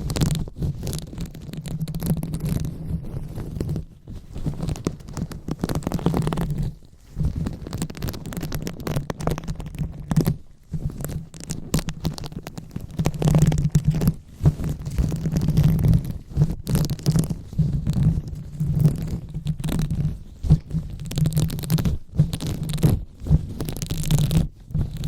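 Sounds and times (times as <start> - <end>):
hands rubbing on microphone: 0.0 - 25.0.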